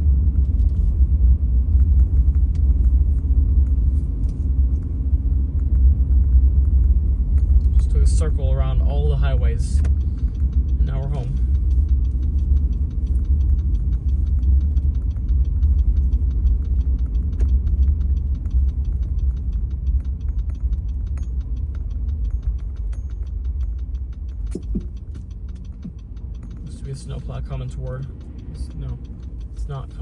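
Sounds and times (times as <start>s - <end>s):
quick regular ticking: 1.6s - 30.0s.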